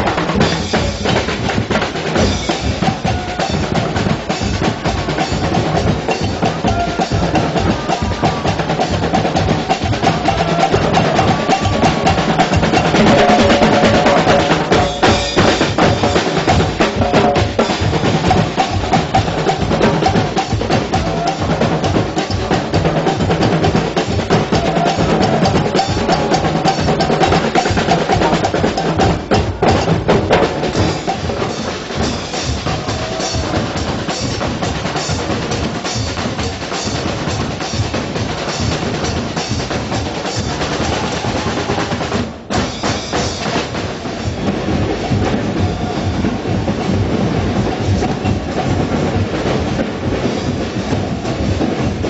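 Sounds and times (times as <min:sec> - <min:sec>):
drum band marching rhythm: 0:00.0 - 0:52.0.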